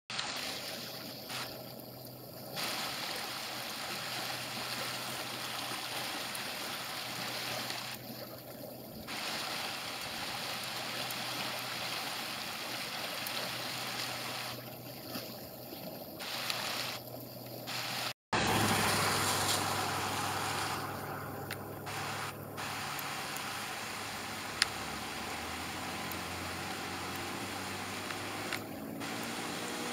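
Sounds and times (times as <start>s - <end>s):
creek water rushing: 0.1s - 29.9s.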